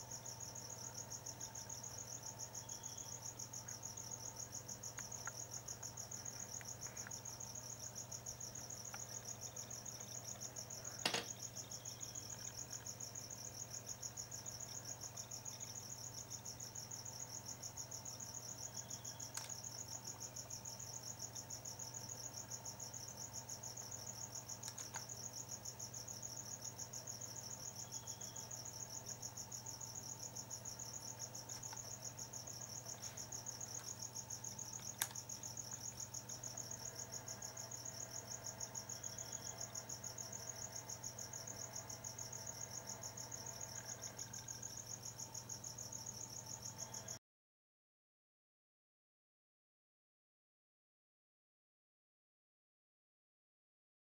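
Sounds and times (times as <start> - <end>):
crickets chirping: 0.0 - 47.2
faint low hum: 0.0 - 47.2.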